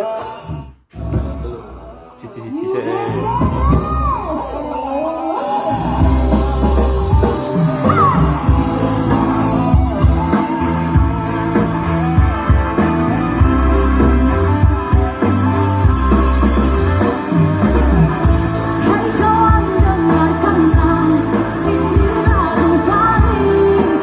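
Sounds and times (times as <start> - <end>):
person singing: 0.0 - 12.8, 17.0 - 24.0
rock music over speaker: 3.0 - 24.0.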